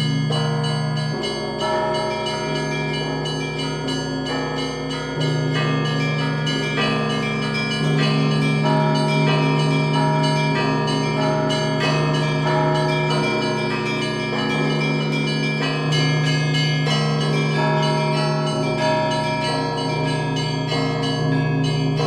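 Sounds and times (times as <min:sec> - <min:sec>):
heavy low bells: 0:00.0 - 0:22.0.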